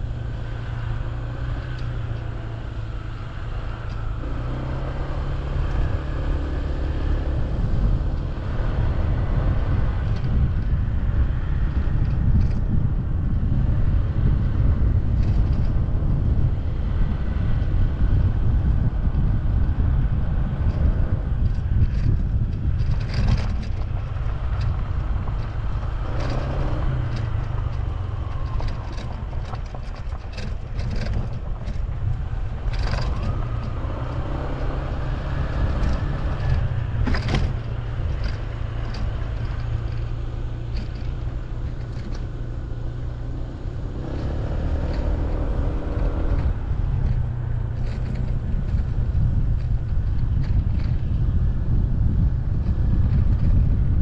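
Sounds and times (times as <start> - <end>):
scooter engine running: 0.0 - 44.4
wind rumble on microphone: 0.0 - 54.0.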